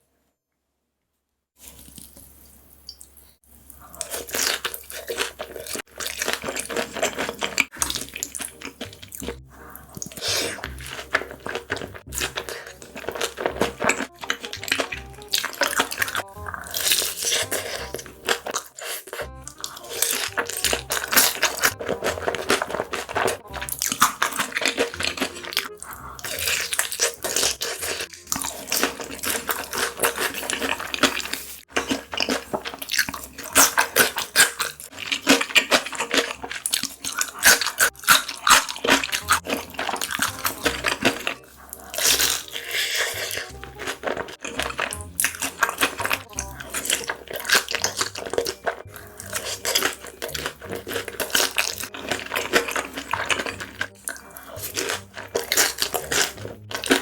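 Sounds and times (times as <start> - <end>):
crunching and chewing food: 1.6 - 57.0.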